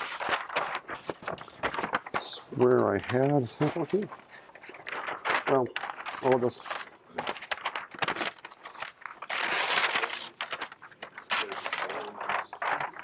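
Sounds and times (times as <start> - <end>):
stiff paper crackling and rustling: 0.0 - 13.0.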